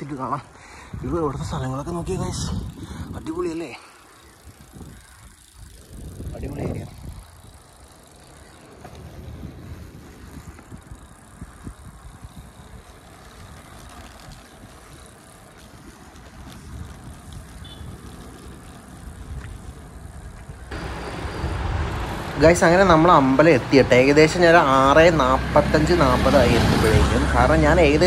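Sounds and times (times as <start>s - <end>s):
bicycle tyres road noise: 0.0s - 28.0s
wind rumble on microphone: 0.8s - 3.5s, 4.5s - 7.7s, 8.8s - 28.0s.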